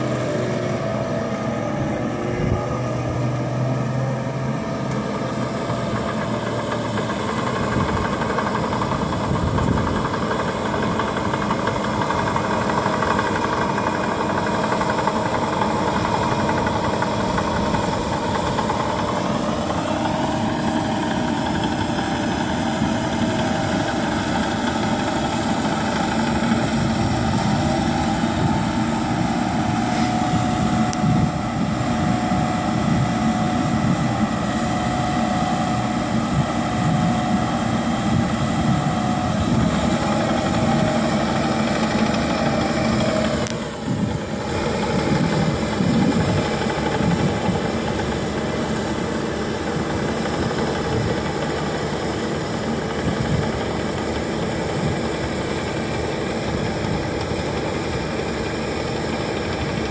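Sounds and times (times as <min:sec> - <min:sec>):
diesel engine running: 0:00.0 - 0:59.9
hydraulic flail mower: 0:00.0 - 0:59.9.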